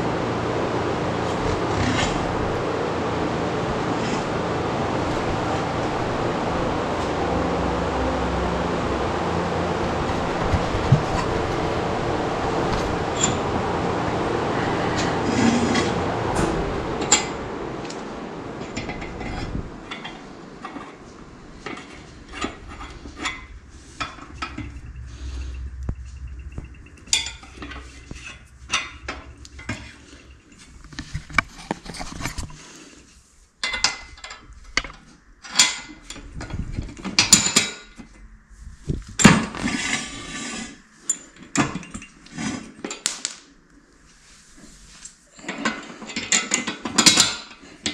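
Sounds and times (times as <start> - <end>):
rumble: 0.0 - 42.5.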